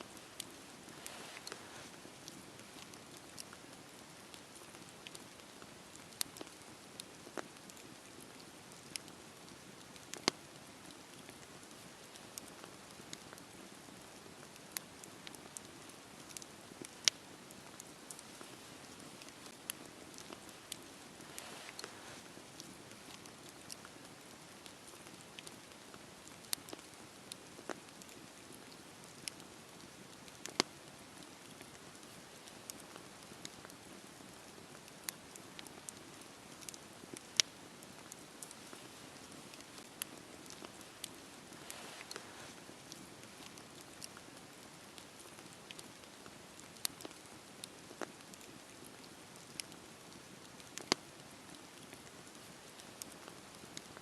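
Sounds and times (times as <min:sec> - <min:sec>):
campfire crackling and popping: 0:00.0 - 0:54.0
campfire hissing: 0:00.0 - 0:54.0.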